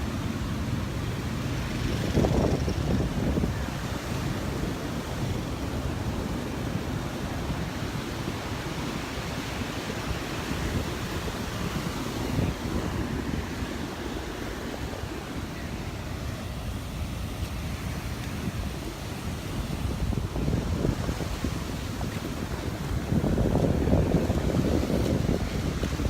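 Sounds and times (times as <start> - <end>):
ocean surf washing onto beach: 0.0 - 26.0
wind buffeting microphone: 0.0 - 26.0.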